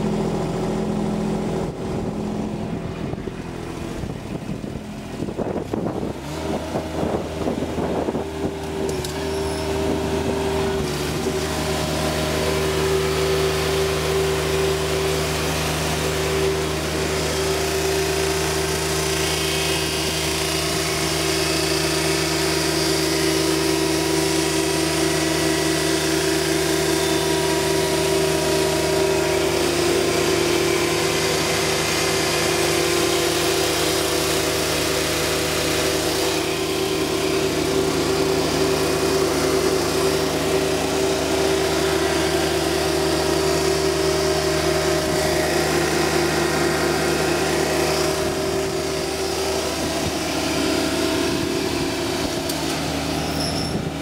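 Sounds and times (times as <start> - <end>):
diesel mower engine running: 0.0 - 54.0.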